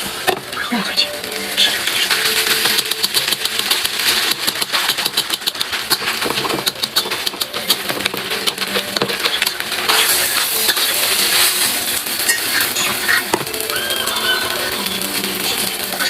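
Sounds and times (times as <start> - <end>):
food sizzling in a pan: 1.2 - 16.0.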